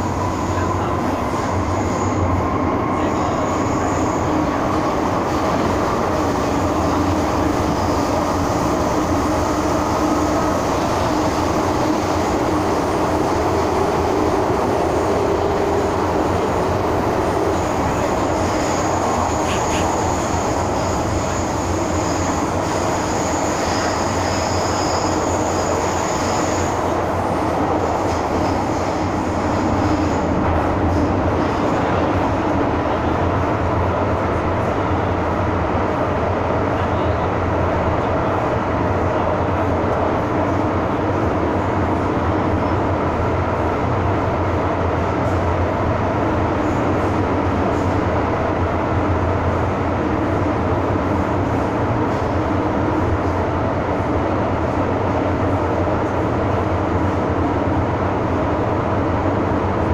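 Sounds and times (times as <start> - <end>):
metro wheels rumbling on rail: 0.0 - 59.9.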